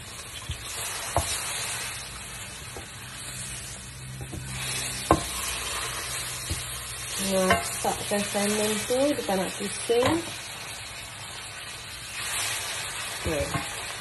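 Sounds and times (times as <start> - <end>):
fish sizzling in a frying pan: 0.0 - 14.0.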